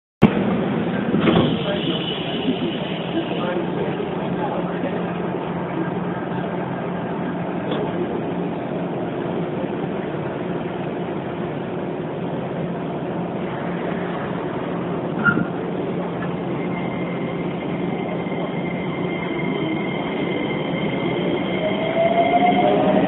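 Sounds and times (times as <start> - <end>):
train interior hum and rumble: 0.2 - 23.0.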